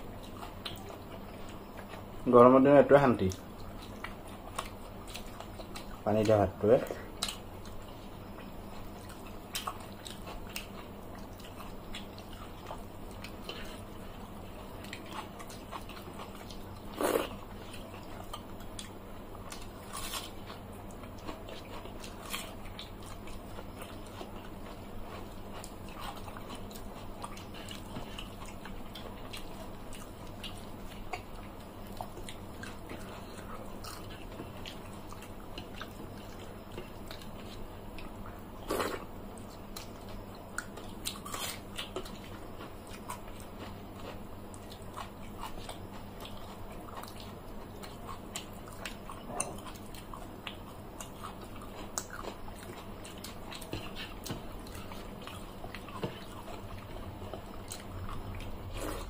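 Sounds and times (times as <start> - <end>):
people chewing and biting: 0.0 - 2.2, 3.2 - 59.0
steady low hum: 0.0 - 59.0.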